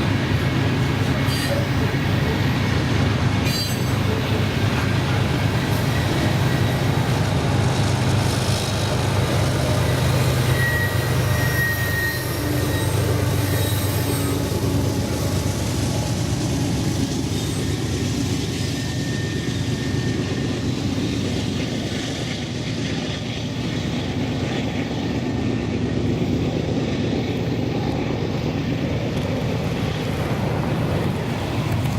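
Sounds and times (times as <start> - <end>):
freight train rumbling past: 0.0 - 31.9.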